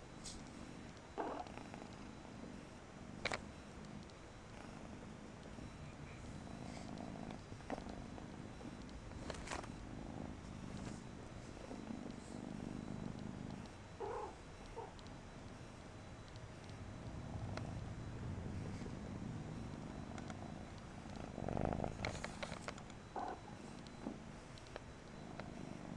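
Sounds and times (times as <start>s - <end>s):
cat purring: 0.2s - 25.9s.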